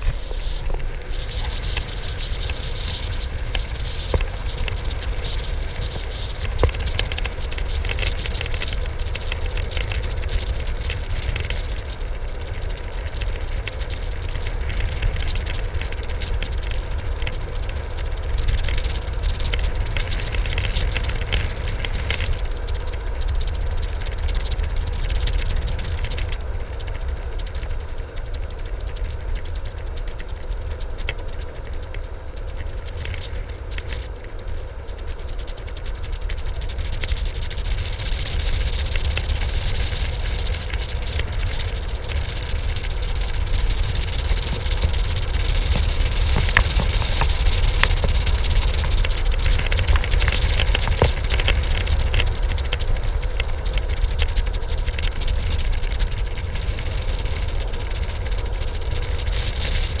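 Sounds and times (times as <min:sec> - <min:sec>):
skateboard wheels clicking over bumps: 0:00.0 - 1:00.0
skateboard wheels rolling on asphalt: 0:00.0 - 1:00.0
wind on microphone: 0:00.0 - 1:00.0.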